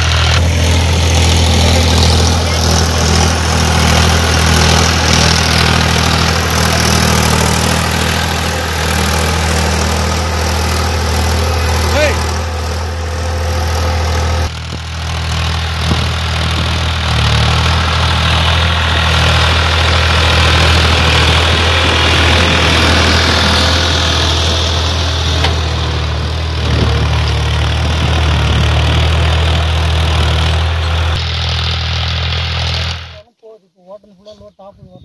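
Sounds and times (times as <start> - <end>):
tractor diesel engine under load: 0.0 - 33.3.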